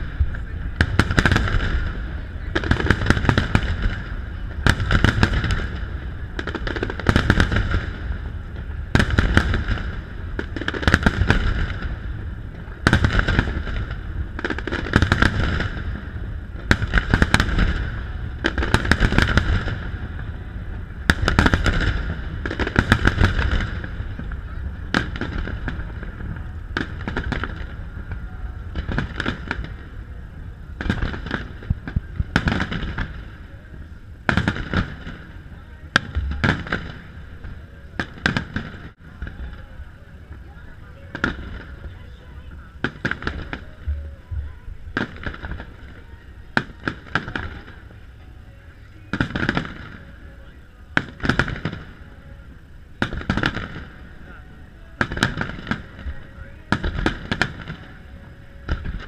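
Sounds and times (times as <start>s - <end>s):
fireworks booming: 0.0s - 48.2s, 48.8s - 59.0s
fireworks crackling: 0.0s - 59.0s.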